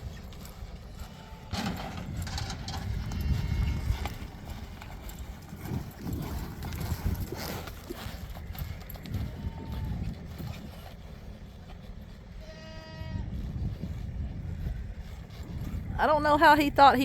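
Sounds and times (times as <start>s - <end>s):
horse hoofbeats clip-clopping: 0.0s - 17.0s.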